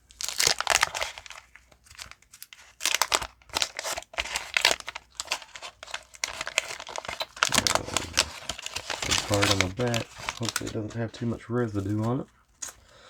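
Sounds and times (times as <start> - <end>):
wax paper wrapper crinkling: 0.1 - 12.9.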